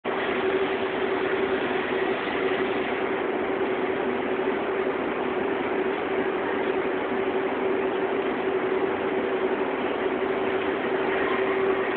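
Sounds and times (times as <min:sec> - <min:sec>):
fabric spreading machine humming: 0:00.1 - 0:11.9.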